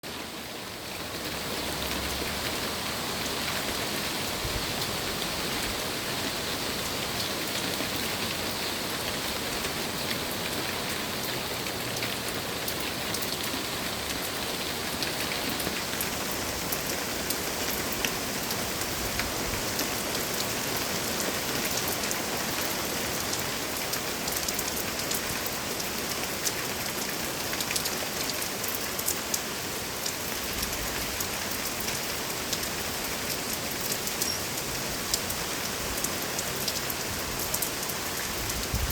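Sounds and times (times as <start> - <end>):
steady rain falling: 0.0 - 38.9
raindrops ticking on a surface: 0.4 - 38.9.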